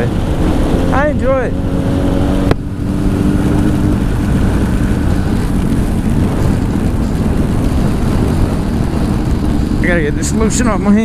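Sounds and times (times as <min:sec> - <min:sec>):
motorcycle engine running: 0:00.0 - 0:11.0
wind noise: 0:00.0 - 0:11.0.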